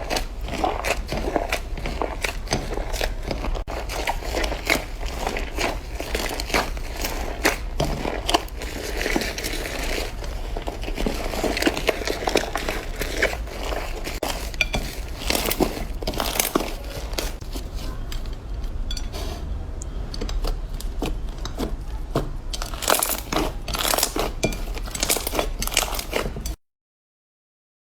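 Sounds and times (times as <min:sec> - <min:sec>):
slime crackling and popping: 0:00.0 - 0:17.5, 0:20.4 - 0:26.4.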